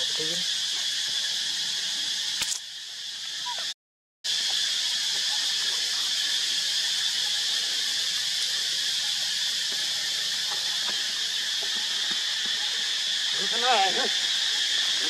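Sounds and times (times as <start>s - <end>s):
high-pitched outdoor hiss: 0.0s - 15.0s.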